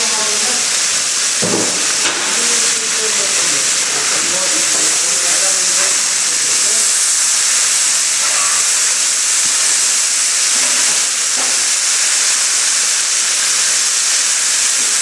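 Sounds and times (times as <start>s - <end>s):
pilaf sizzling in cauldron: 0.0s - 15.0s.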